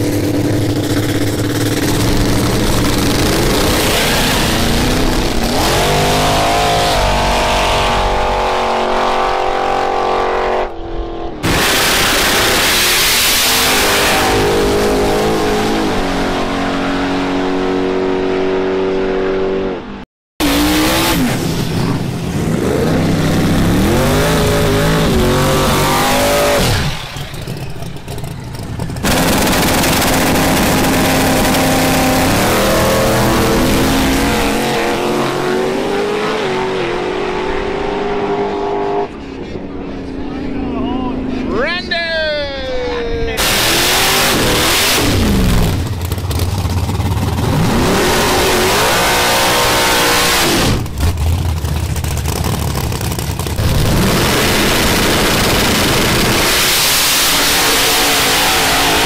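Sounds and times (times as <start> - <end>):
race car engines accelerating: 0.0 - 41.9, 43.4 - 59.0.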